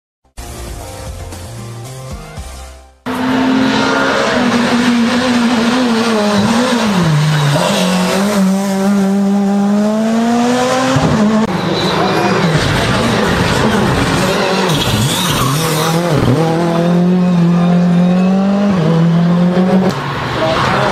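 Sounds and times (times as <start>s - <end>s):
rally car engine revving: 3.1s - 20.9s.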